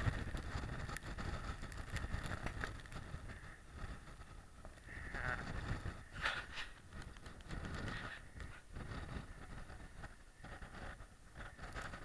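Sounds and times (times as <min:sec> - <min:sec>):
faint clicks: 0:00.0 - 0:12.0
wind buffeting microphone: 0:00.0 - 0:12.0.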